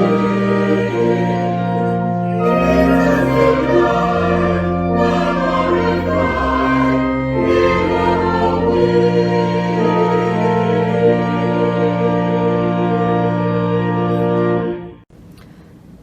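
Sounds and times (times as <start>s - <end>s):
choir singing sacred piece: 0.0s - 14.5s
instrumental accompaniment: 0.0s - 15.1s.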